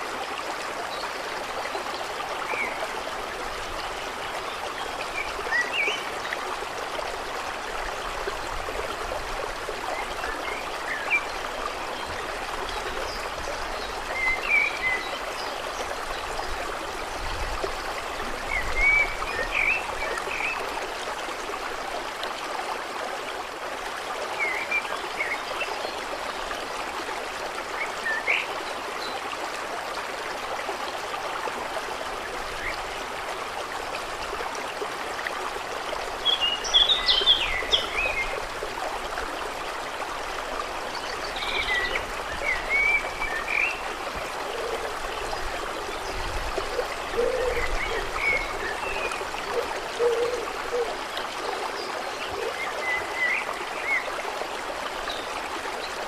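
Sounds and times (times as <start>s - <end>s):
water trickling and flowing: 0.0s - 56.0s.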